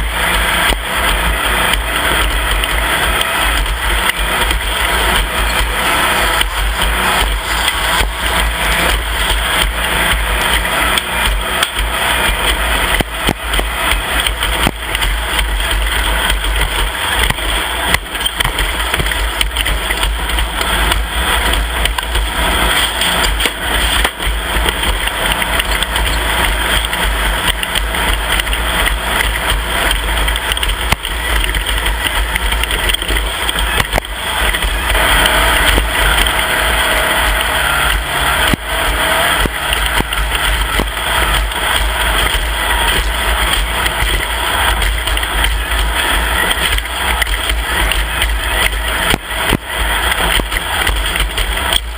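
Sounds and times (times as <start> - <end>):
loud steady rush: 0.0 - 51.9
race vehicle engine: 0.0 - 51.9.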